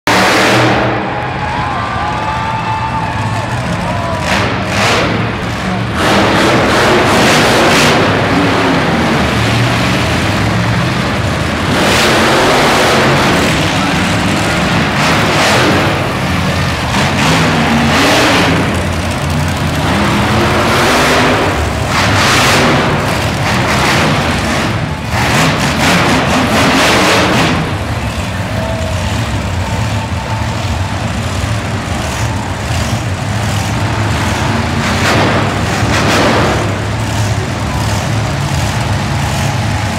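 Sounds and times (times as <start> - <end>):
monster truck engines revving: 0.0 - 39.9.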